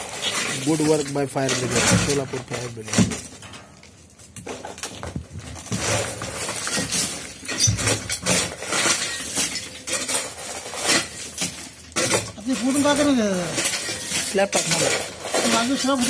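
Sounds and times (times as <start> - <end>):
concrete rubble clinking: 0.0 - 16.0.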